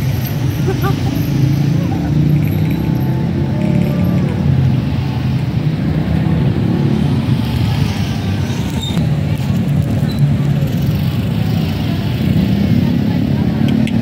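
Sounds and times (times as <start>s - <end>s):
low rumble of street traffic: 0.0s - 14.0s.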